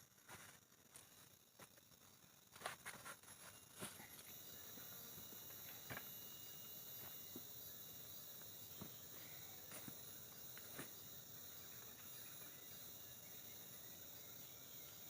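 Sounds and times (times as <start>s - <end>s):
insect trilling chorus: 0.3s - 15.0s.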